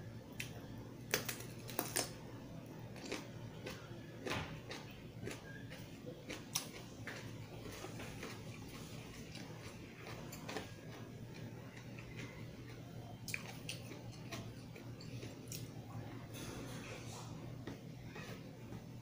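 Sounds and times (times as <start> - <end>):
chewing crisp cucumber: 0.3 - 18.8.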